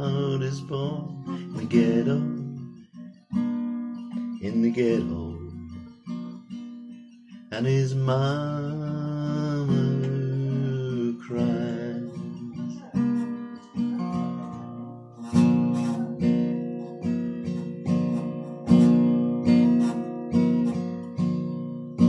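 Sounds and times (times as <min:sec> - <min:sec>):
acoustic guitar strummed chords: 0:00.0 - 0:22.0.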